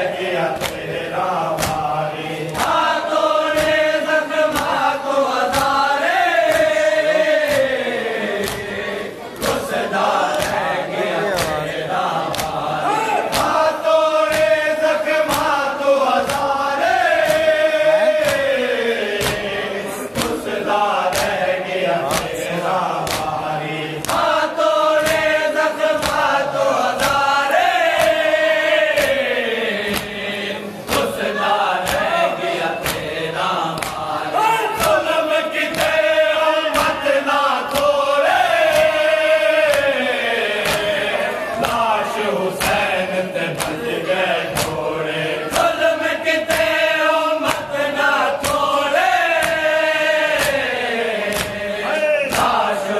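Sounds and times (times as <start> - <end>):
men chanting together: 0.0 - 52.9
chest-beating slaps: 0.1 - 52.9.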